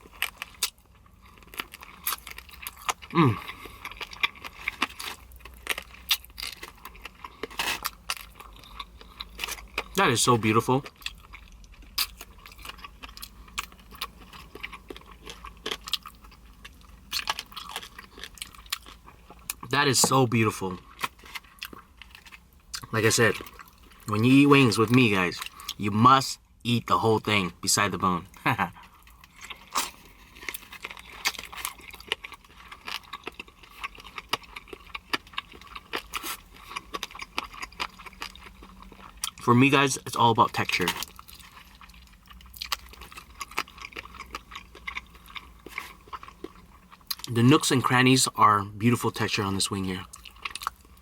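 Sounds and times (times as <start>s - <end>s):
chewing chicken wing: 0.0s - 25.8s, 28.4s - 39.9s, 40.5s - 47.6s, 49.2s - 51.0s.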